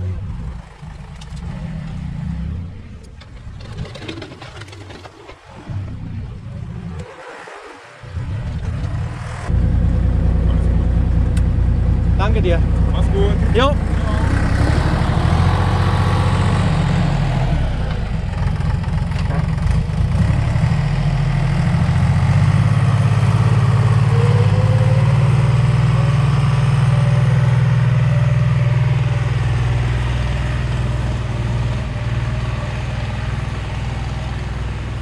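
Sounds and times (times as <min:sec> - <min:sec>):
earthmoving machine engine droning: 0:00.0 - 0:35.0.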